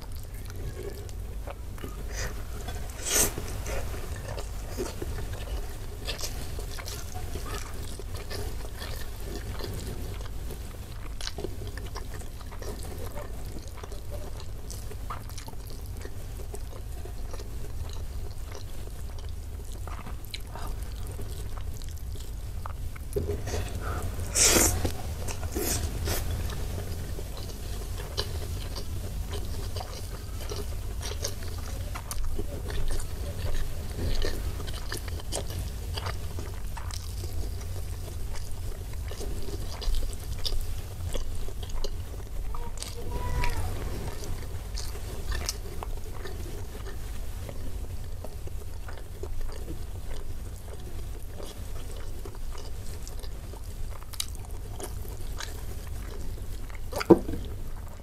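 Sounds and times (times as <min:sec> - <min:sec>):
close-up chewing: 0:00.0 - 0:58.0.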